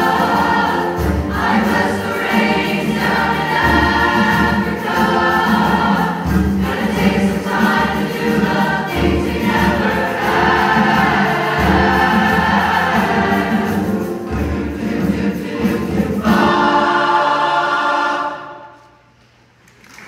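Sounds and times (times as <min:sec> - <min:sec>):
mixed choir singing sustained chords: 0:00.0 - 0:19.0.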